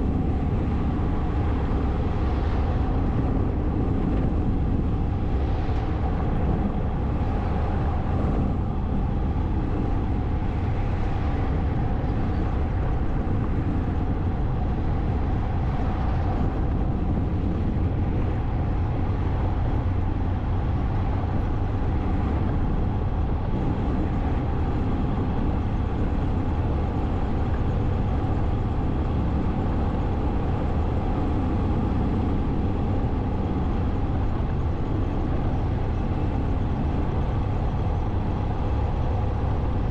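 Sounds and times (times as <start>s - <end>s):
motorcycle engine drone: 0.0s - 39.9s
wind rush over microphone: 0.0s - 39.9s.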